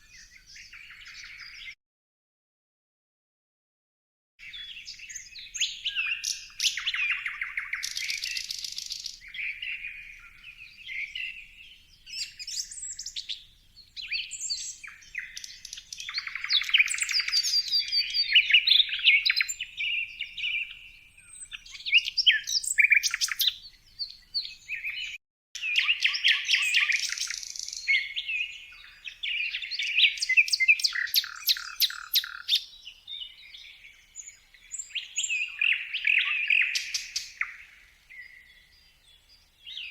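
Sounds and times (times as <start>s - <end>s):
songbirds chirping and singing: 0.0s - 1.8s, 4.4s - 39.9s.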